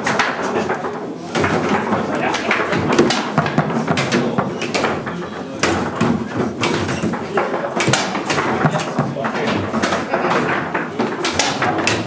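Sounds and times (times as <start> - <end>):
foosball ball knocks and clacks: 0.0 - 12.0
foosball rods snapping and sliding: 0.0 - 12.0.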